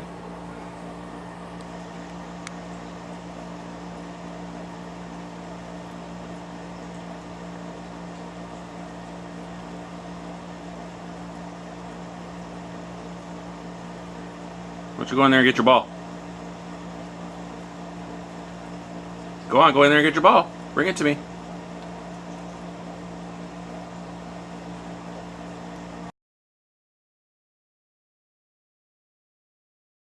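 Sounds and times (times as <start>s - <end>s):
fan humming: 0.0s - 26.1s.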